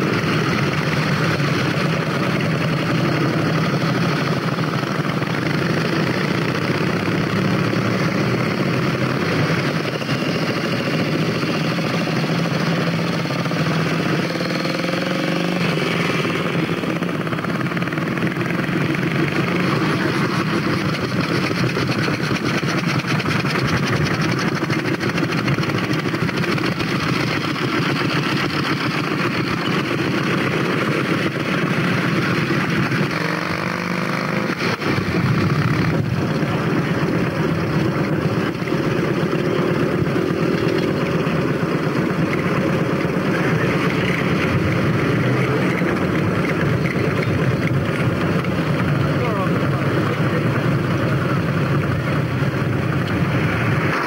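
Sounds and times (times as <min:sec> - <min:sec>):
motorcycle engines running: 0:00.0 - 0:54.0.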